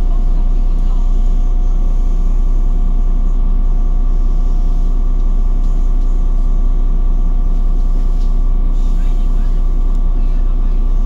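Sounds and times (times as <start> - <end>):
steady whine: 0.0 - 11.0.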